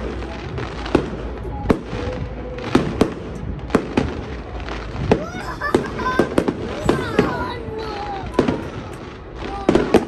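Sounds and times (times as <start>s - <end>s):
background rumble: 0.0s - 10.0s
fireworks bangs: 0.0s - 10.0s.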